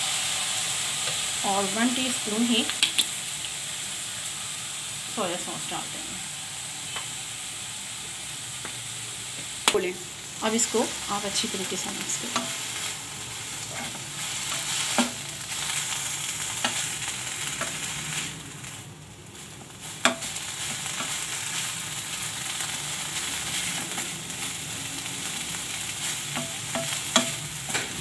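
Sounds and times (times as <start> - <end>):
chicken sizzling in oil: 0.0 - 28.0.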